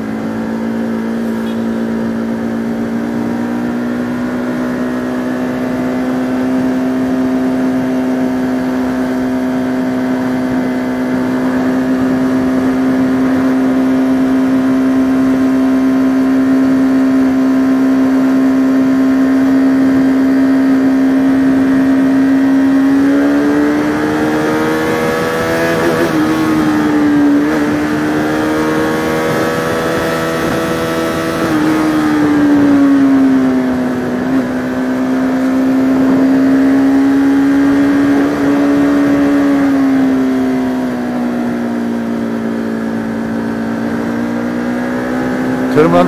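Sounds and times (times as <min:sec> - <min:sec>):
motorcycle engine running: 0:00.0 - 0:46.0
wind and road noise: 0:00.0 - 0:46.0.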